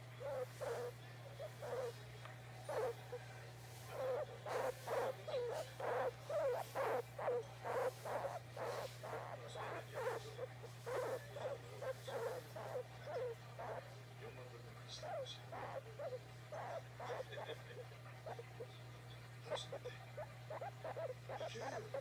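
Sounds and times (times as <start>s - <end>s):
guinea pig soft calls: 0.0s - 22.0s
steady low hum: 0.0s - 22.0s.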